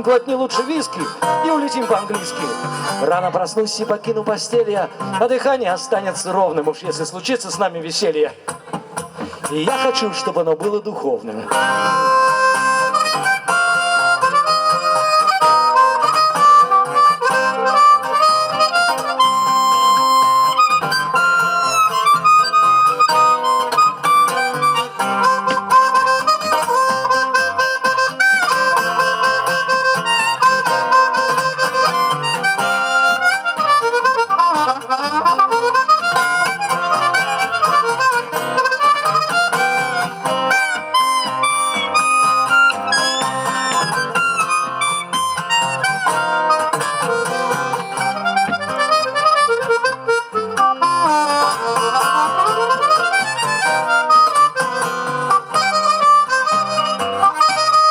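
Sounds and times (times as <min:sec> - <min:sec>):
harmonica solo: 0:00.0 - 0:03.4, 0:11.5 - 0:57.9
guitar accompaniment: 0:00.0 - 0:57.9.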